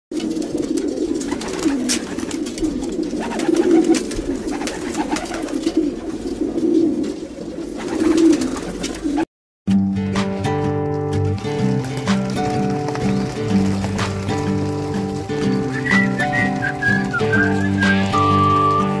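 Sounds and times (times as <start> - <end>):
pigeons cooing: 0.2 - 9.2, 11.4 - 19.0.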